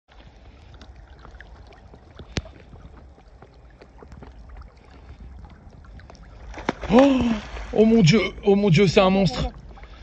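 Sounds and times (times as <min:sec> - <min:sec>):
water lapping and splashing: 0:00.1 - 0:10.0
wind rumble on microphone: 0:00.3 - 0:10.0.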